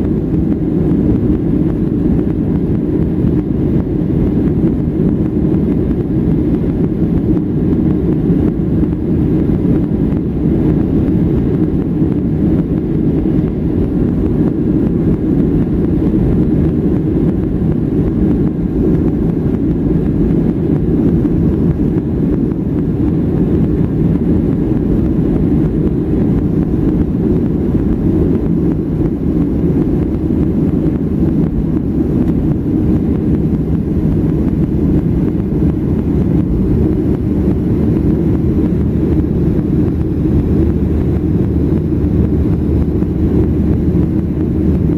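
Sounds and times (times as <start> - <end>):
jet engine and rolling noise in cabin: 0.0 - 44.9.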